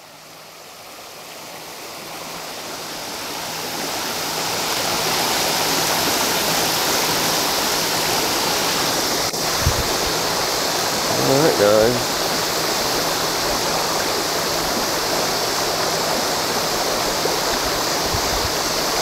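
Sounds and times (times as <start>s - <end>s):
creek water rushing over rocks: 0.0s - 19.0s.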